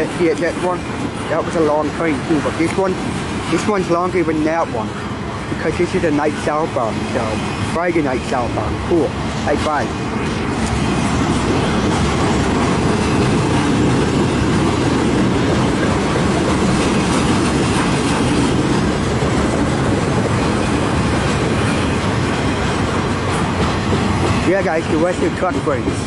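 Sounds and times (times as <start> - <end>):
freight train wheels on rail: 0.0 - 26.0.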